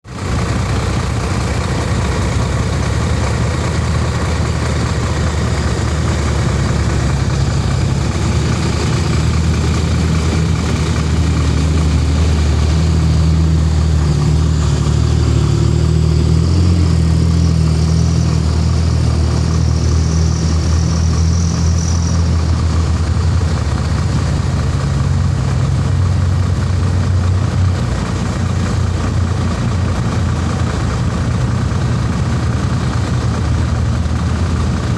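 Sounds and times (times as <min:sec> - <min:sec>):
truck diesel engine drone: 0:00.0 - 0:34.9.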